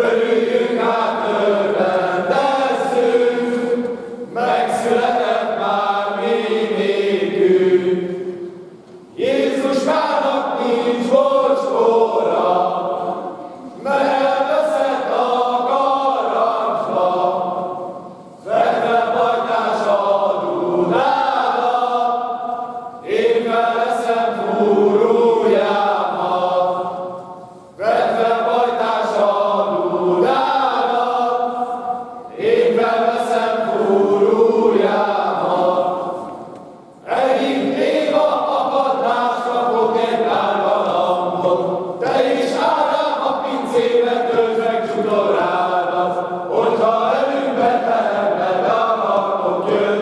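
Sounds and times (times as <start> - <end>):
men singing unaccompanied: 4.4 - 8.0, 9.2 - 13.0, 13.8 - 17.6, 18.4 - 22.4, 23.0 - 27.0, 27.8 - 36.1, 37.0 - 50.0.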